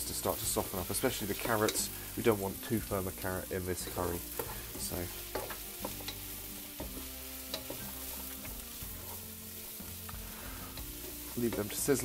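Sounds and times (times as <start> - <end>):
quiet background music: 0.0 - 12.0
vegetables sizzling in oil: 0.0 - 12.0
wooden spoon scraping a pan: 0.2 - 12.0.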